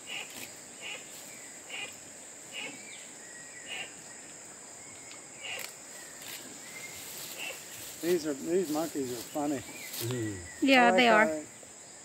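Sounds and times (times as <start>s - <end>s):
insect chirping calls: 0.0s - 12.0s.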